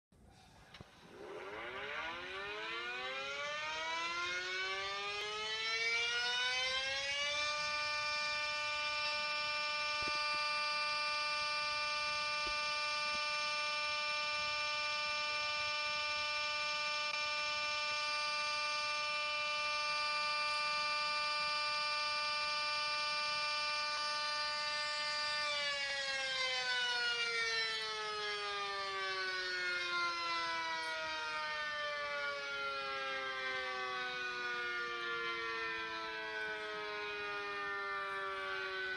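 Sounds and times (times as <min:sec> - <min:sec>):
outdoor warning siren: 0:00.2 - 0:38.9.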